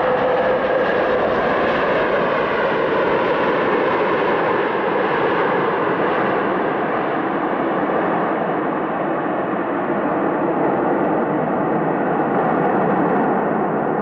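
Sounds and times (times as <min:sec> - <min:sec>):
airliner engines running: 0:00.0 - 0:14.0.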